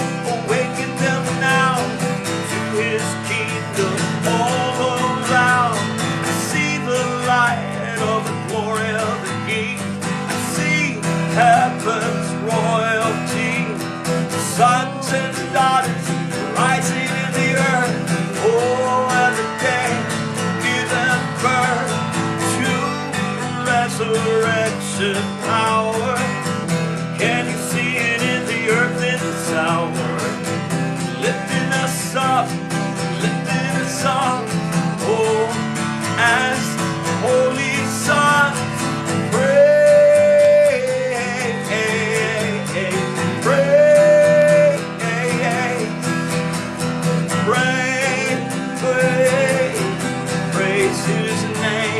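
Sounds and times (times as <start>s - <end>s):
worship music on guitar: 0.0s - 51.9s.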